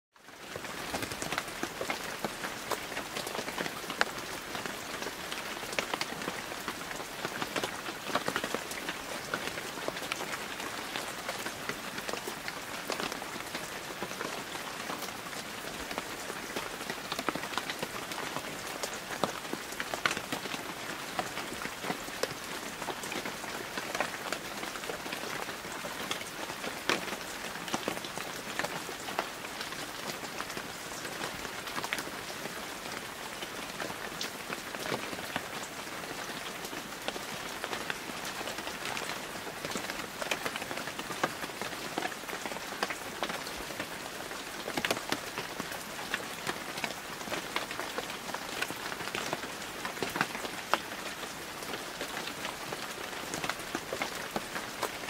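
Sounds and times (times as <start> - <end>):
heavy rain on hard surface: 0.1 - 55.0.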